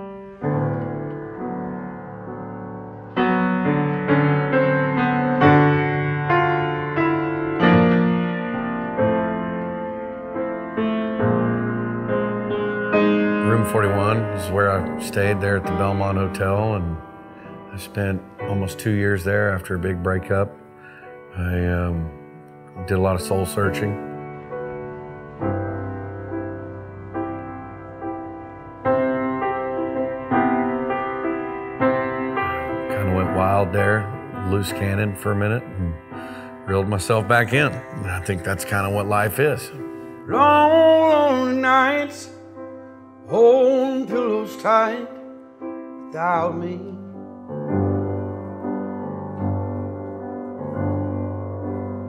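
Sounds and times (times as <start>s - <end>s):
slow piano chords: 0.0s - 52.0s.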